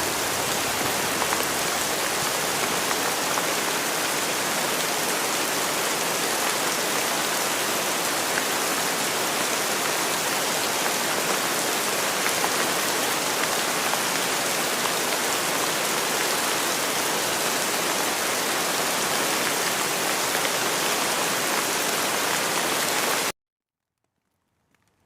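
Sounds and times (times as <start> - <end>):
dense rain falling: 0.0 - 23.3.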